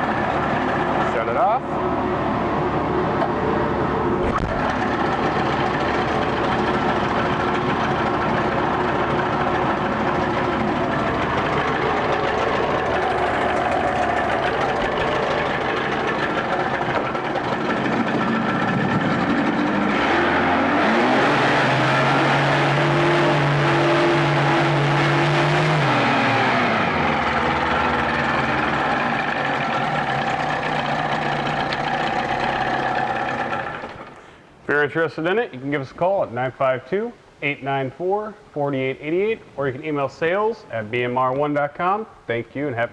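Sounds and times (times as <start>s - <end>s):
outboard motor running: 0.0s - 34.4s.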